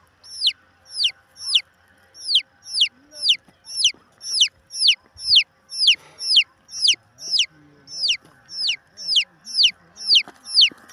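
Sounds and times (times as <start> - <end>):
chick peeping: 0.0 - 10.9.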